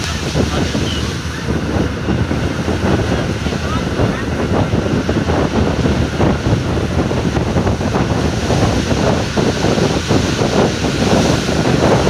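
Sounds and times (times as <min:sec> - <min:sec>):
bus road and engine rumble: 0:00.0 - 0:12.0
wind buffeting microphone: 0:00.0 - 0:12.0.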